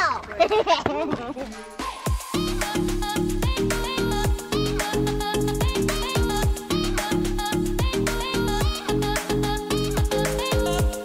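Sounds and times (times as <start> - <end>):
upbeat instrumental music: 1.3 - 11.0.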